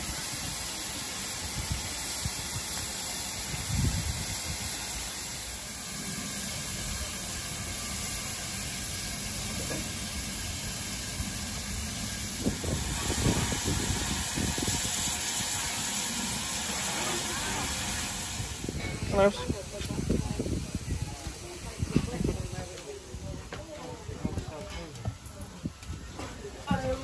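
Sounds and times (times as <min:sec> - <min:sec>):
steam hissing from locomotive: 0:00.0 - 0:23.4.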